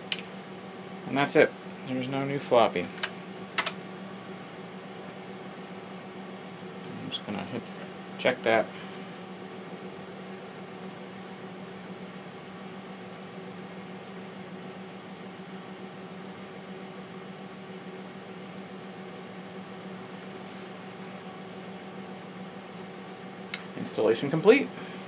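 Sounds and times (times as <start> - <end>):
computer fan humming: 0.0 - 25.0.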